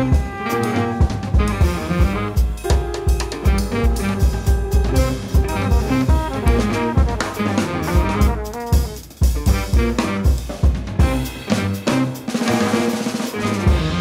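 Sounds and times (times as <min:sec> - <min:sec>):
jazz band playing: 0:00.0 - 0:14.0
tenor saxophone: 0:00.0 - 0:14.0
trumpet: 0:00.0 - 0:14.0.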